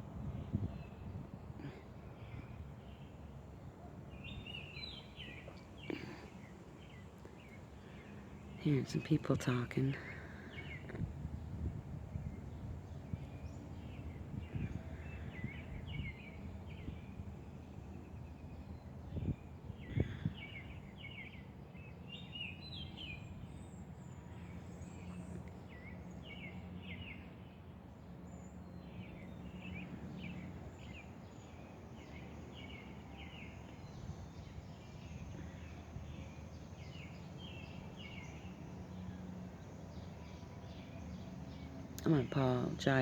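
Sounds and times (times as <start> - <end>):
low outdoor hum: 0.0 - 43.0
small birds chirping: 0.2 - 43.0.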